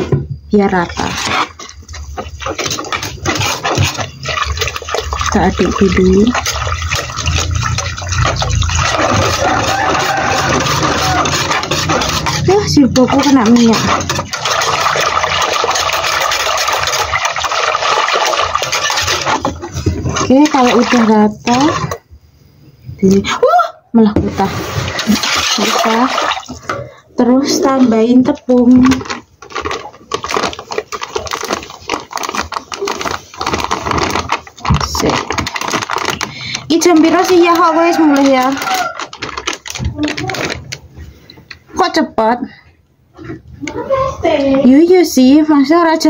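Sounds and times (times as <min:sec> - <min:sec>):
batter stirred in metal pot: 0:00.0 - 0:22.2, 0:24.2 - 0:42.6
plastic bag crinkling: 0:00.7 - 0:22.0, 0:24.6 - 0:26.7, 0:27.5 - 0:41.6.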